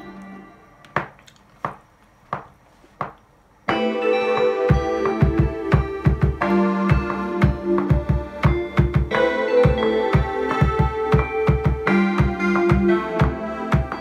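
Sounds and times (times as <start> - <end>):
hip-hop beat with keyboard chords: 0.0 - 14.0.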